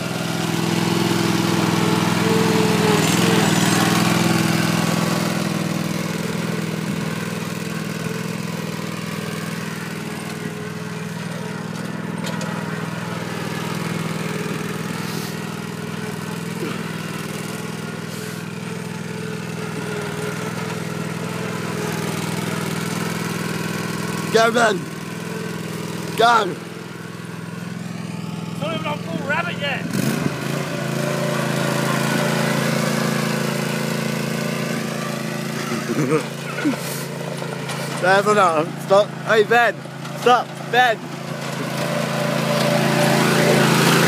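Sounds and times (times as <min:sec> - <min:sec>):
riding lawn mower engine running: 0:00.0 - 0:44.0.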